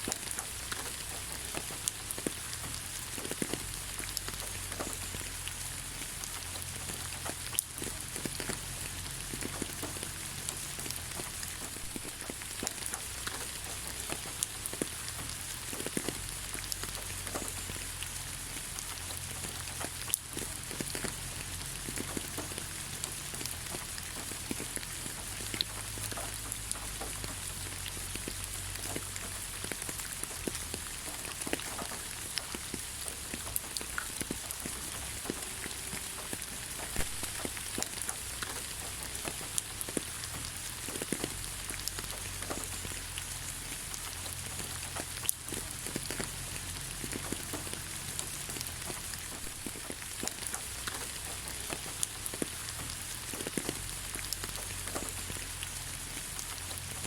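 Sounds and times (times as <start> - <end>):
rain falling on ground: 0.0 - 57.0.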